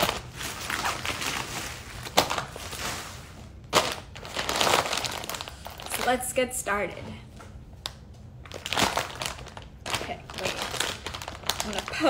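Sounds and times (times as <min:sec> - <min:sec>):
plastic bag rustling: 0:00.0 - 0:06.4, 0:08.4 - 0:12.0.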